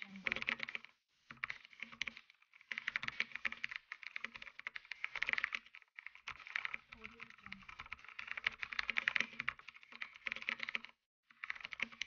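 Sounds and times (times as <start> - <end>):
computer keyboard typing: 0.0 - 12.0.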